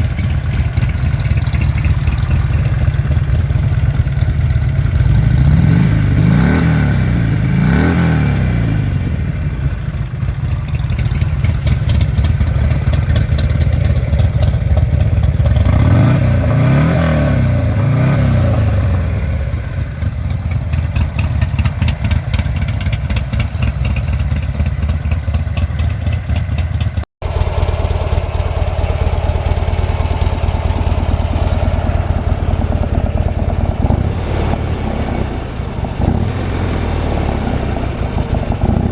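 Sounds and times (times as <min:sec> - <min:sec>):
motorcycle idling: 0:00.0 - 0:38.9
motorcycle throttle blips: 0:00.0 - 0:38.9.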